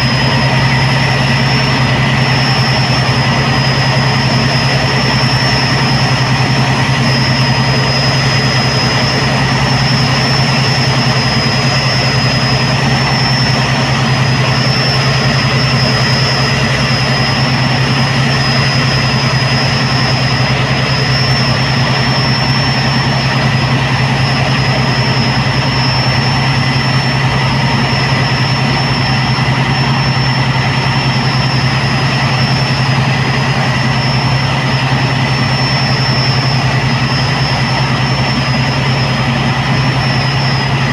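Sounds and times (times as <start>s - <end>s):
diesel engine drone: 0.0s - 40.9s
thin high whine: 0.0s - 40.9s.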